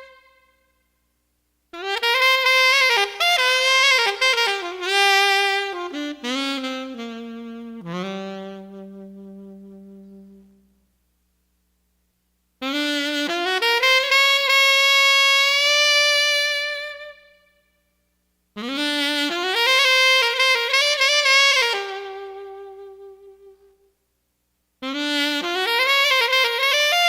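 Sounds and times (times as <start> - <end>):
saxophone-led music: 0.0 - 0.8, 1.8 - 10.8, 12.6 - 17.6, 18.6 - 23.9, 24.8 - 27.0.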